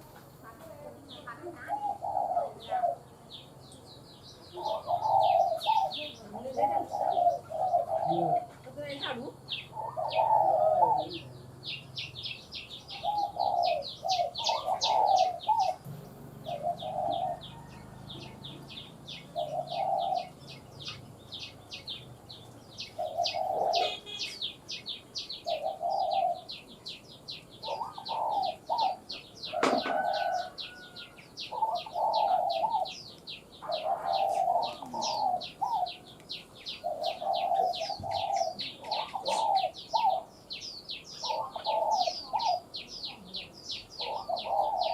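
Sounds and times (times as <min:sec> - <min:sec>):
dove cooing: 0:00.0 - 0:03.4, 0:04.5 - 0:22.0, 0:22.7 - 0:44.9.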